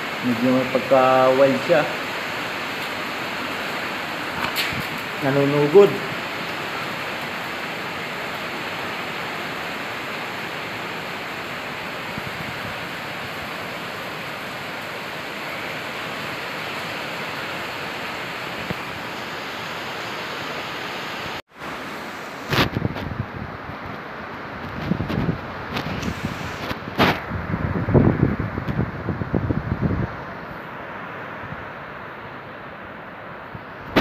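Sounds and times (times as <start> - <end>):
heavy rain hissing: 0.0 - 34.0.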